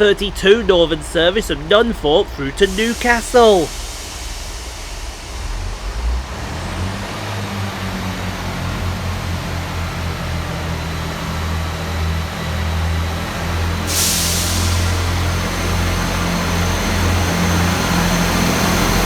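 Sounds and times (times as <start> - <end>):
train diesel engine rumble: 0.0 - 19.0.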